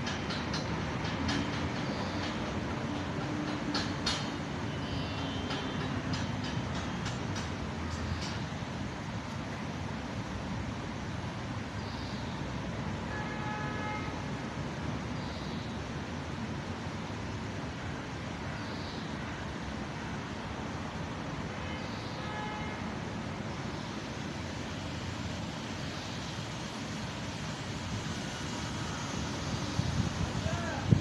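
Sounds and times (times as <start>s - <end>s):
traffic noise: 0.0s - 31.0s.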